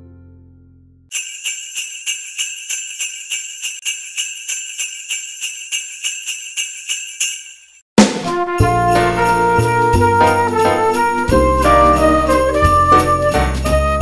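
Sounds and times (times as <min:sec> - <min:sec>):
sleigh bells shaking: 0:01.1 - 0:07.8, 0:08.7 - 0:13.9.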